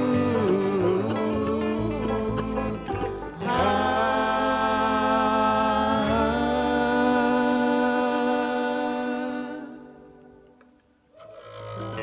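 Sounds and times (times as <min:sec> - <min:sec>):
voices singing harmony chord: 0:00.0 - 0:10.4.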